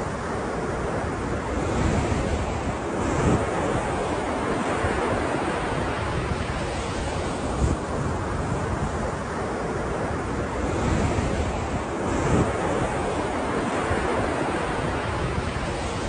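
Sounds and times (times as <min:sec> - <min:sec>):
ocean waves breaking: 0:00.0 - 0:16.0
wind on microphone: 0:00.0 - 0:16.0.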